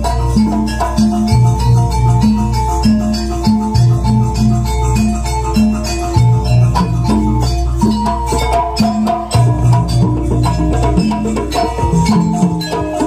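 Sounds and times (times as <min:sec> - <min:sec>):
drum and rattle strokes: 0:00.0 - 0:13.0
mallet percussion melody: 0:00.0 - 0:13.0.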